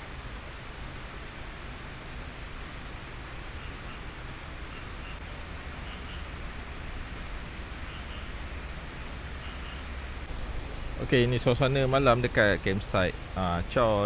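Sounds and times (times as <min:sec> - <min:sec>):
insects droning: 0:00.0 - 0:14.0
low steady hum: 0:00.0 - 0:14.0.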